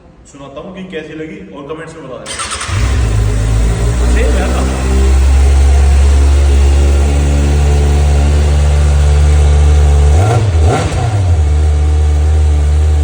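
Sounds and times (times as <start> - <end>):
motorcycle engine running: 2.4 - 13.0.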